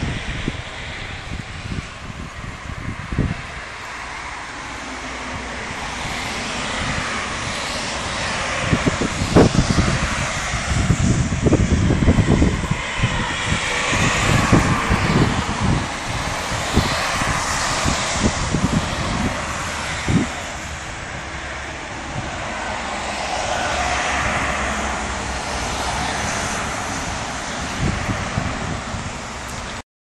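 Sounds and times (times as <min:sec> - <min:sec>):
gusty wind: 0:00.0 - 0:29.8
wind buffeting microphone: 0:00.0 - 0:29.8.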